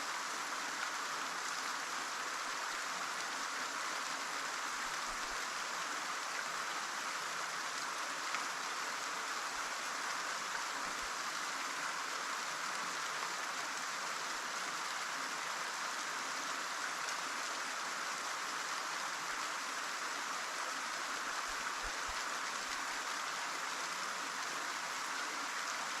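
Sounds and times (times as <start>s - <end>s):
small waterfall splashing: 0.0s - 26.0s.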